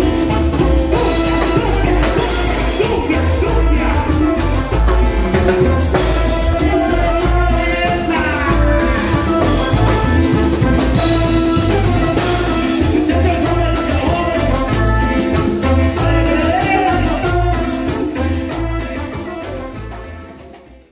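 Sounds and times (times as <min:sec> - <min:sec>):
live band playing: 0:00.0 - 0:20.9.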